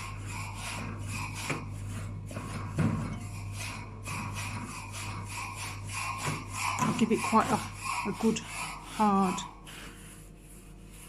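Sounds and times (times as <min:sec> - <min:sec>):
feather duster scratching wire rack: 0:00.0 - 0:11.0.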